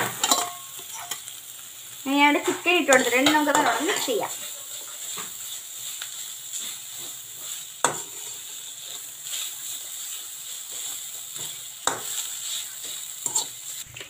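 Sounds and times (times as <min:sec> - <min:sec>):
food sizzling in oil: 0:00.0 - 0:14.0
spatula scraping wok: 0:00.0 - 0:14.0.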